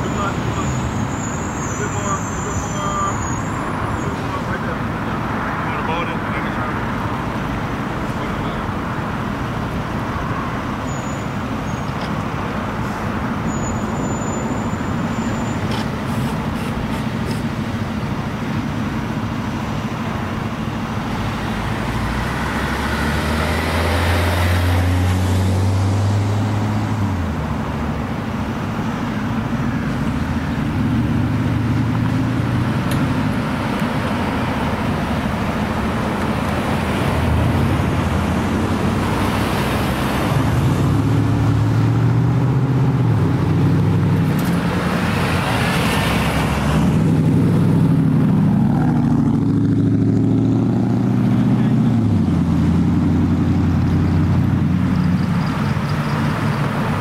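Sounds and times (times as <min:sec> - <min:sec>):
vehicle engines droning: 0:00.0 - 0:57.0
vehicles passing by: 0:00.0 - 0:57.0.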